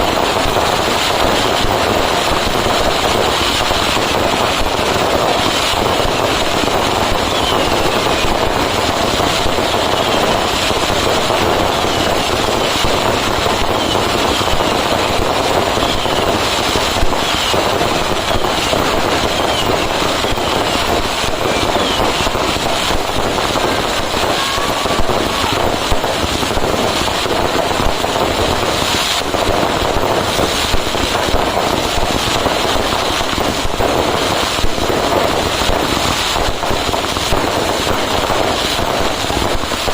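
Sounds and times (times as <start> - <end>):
firecrackers crackling: 0.0 - 39.9
fireworks whistling: 0.0 - 39.9.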